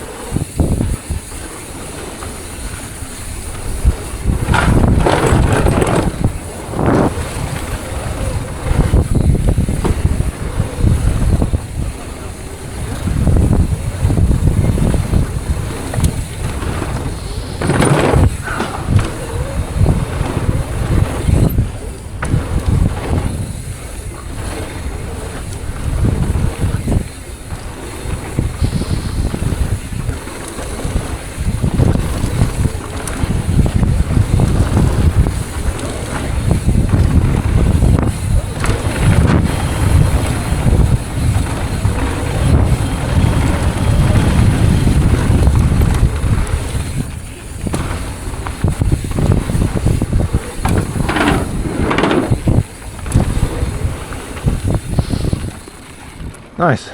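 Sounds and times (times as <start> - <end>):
mountain bike rumble and rattle: 0.0 - 56.6
wind buffeting microphone: 0.0 - 56.8.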